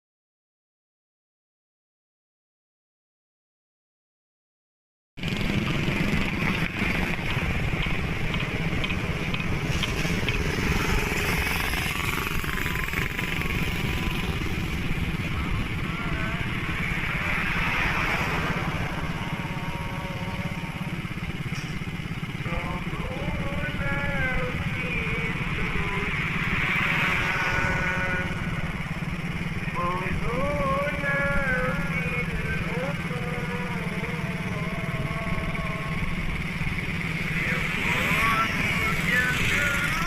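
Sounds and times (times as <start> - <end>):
motorcycle and traffic rumble: 5.2 - 40.0.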